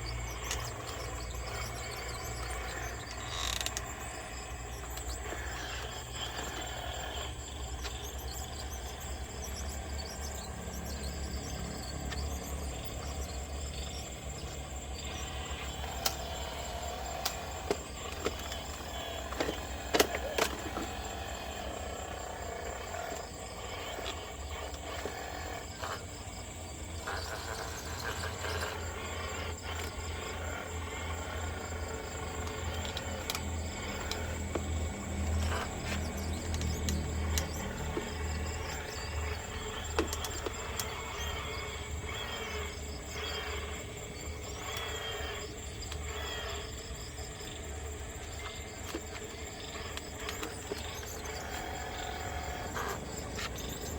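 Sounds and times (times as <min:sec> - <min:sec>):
small electric motors humming: 0:00.0 - 0:53.9.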